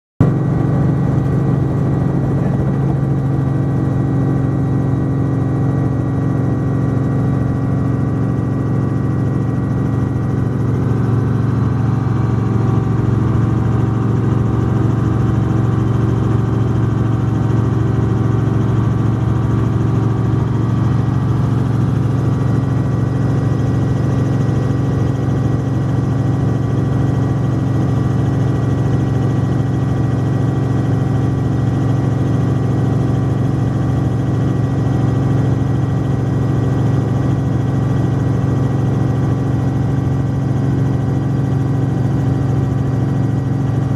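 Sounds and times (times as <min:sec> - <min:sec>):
helicopter engine and rotor: 0:00.2 - 0:43.9.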